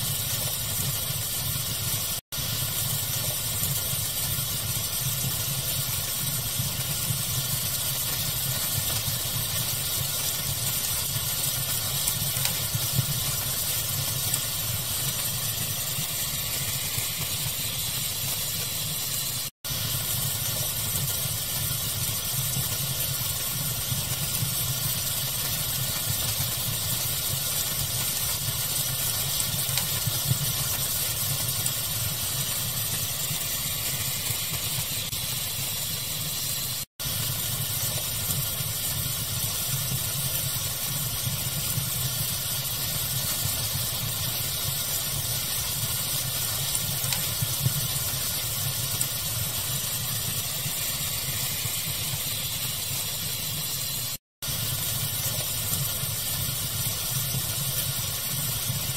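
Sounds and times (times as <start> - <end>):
wood fire crackling pops: 0.0 - 18.7, 19.7 - 35.3, 37.0 - 52.4, 54.4 - 58.9
steady pink noise hiss: 0.0 - 58.9.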